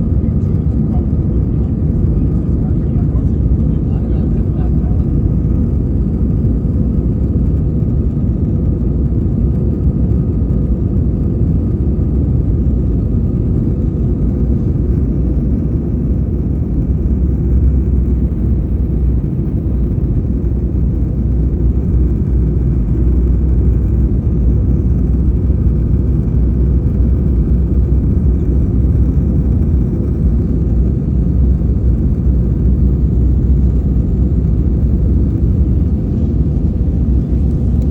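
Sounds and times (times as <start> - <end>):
faint whine: 0.0 - 37.9
jet engine and airflow rumble: 0.0 - 37.9.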